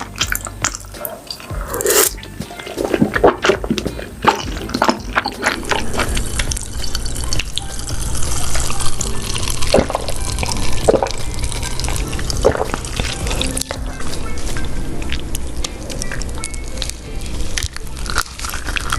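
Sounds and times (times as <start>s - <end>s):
wet squishy chewing: 0.0s - 18.9s.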